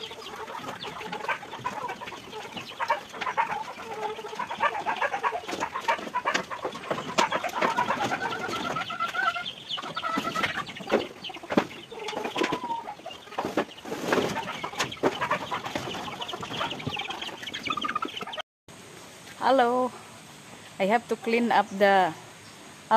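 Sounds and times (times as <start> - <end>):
chickens clucking: 0.0 - 18.4, 20.3 - 22.5.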